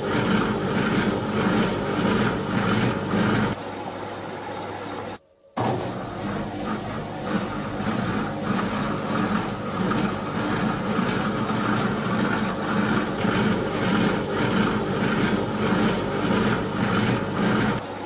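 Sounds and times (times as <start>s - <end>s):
washing machine churning: 0.0s - 18.0s
washing machine motor hum: 0.0s - 18.0s.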